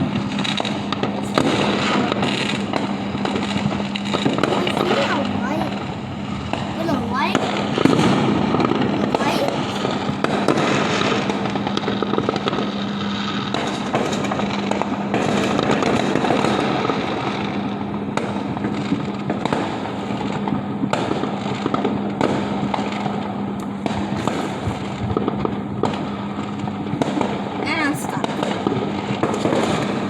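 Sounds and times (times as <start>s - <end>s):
fireworks crackling and banging: 0.0s - 30.0s
steady low hum: 0.0s - 30.0s.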